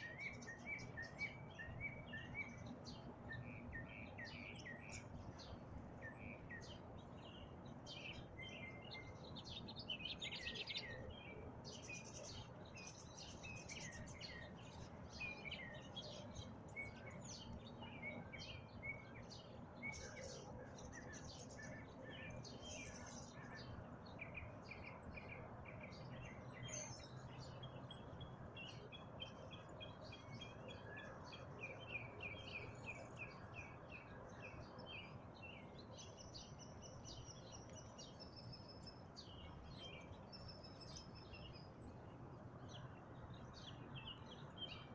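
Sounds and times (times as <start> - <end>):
faint low background noise: 0.0 - 44.9.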